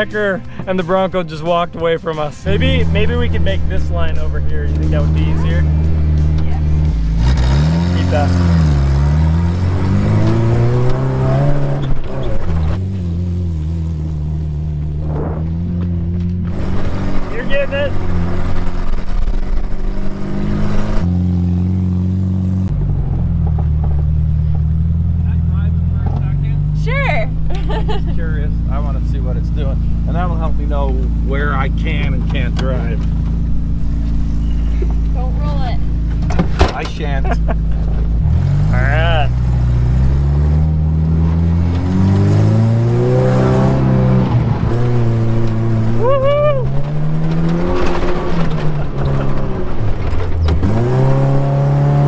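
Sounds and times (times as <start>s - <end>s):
engine pulling hard: 0.0s - 52.0s.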